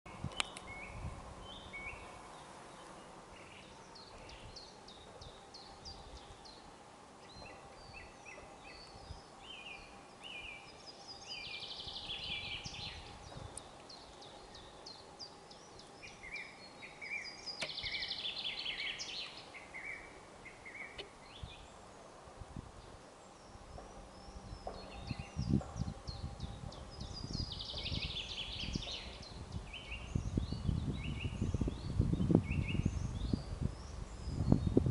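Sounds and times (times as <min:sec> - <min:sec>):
small songbirds singing: 0:00.1 - 0:34.9
steady low rumble: 0:00.1 - 0:34.9.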